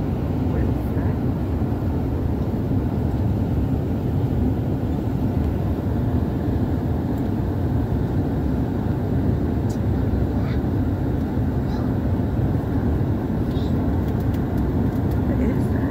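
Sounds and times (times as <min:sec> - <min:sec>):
airliner cabin engine and airflow noise: 0:00.0 - 0:15.9.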